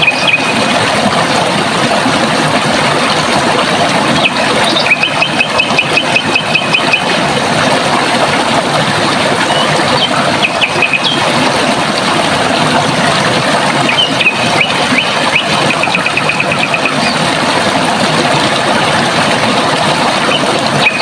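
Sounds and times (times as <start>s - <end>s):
running water rushing: 0.0s - 21.0s.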